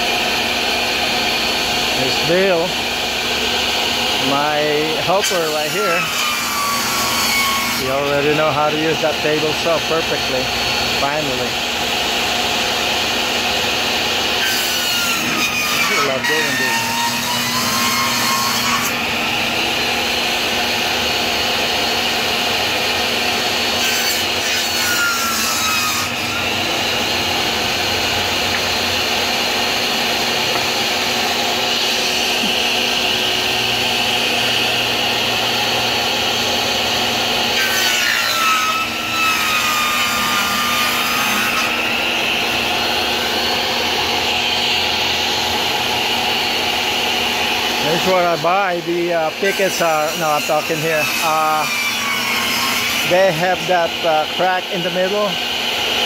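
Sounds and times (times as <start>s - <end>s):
table saw cutting wood: 0.0s - 56.0s.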